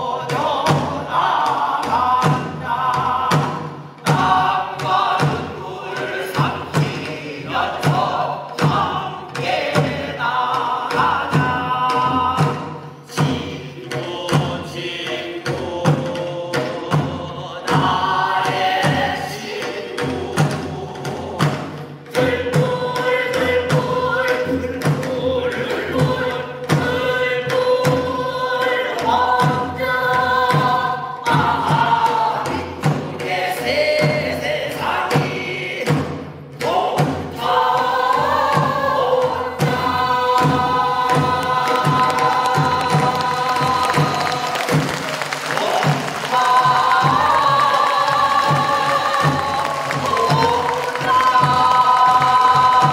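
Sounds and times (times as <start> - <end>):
chorus of singers: 0.0 - 52.9
steady drum beat: 0.0 - 52.9.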